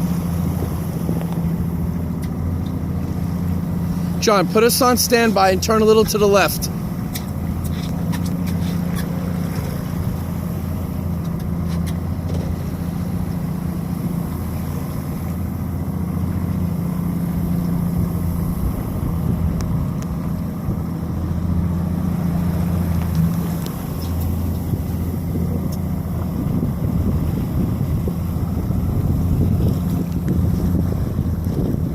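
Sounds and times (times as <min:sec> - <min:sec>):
boat engine running: 0:00.0 - 0:31.9.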